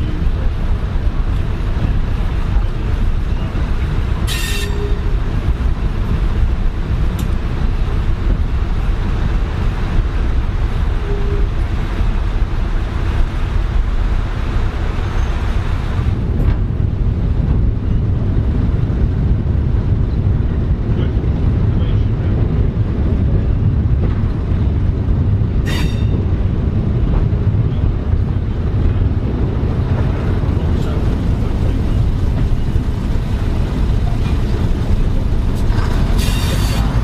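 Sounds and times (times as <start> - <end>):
train running gear rumble: 0.0 - 37.0.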